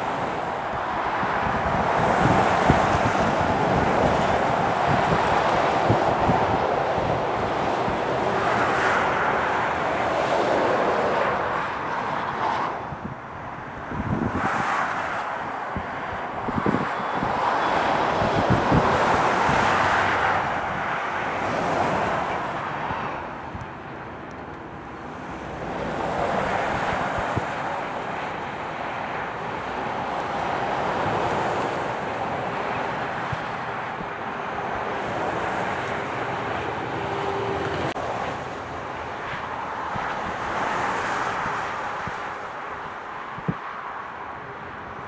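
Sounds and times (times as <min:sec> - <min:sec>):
wind buffeting microphone: 0:00.0 - 0:43.7
heavy lorries passing: 0:00.0 - 0:45.0.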